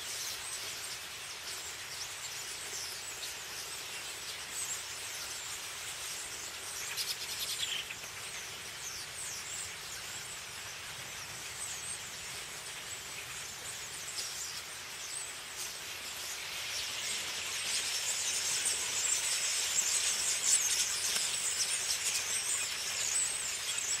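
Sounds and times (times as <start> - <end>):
starlings chattering: 0.0 - 24.0.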